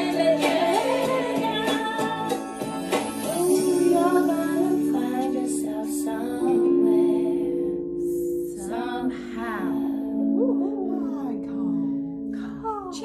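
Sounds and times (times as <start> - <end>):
woman singing: 0.0 - 2.6, 3.2 - 7.7, 8.3 - 11.6
long held chords: 2.3 - 12.8.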